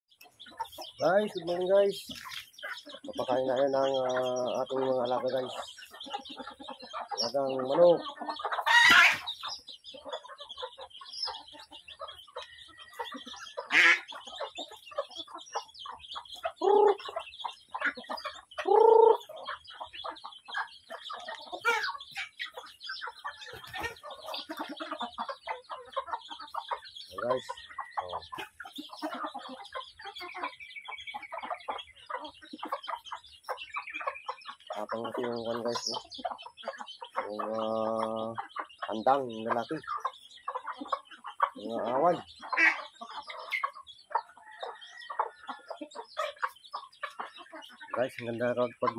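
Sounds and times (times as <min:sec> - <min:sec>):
chickens clucking: 0:00.1 - 0:48.9.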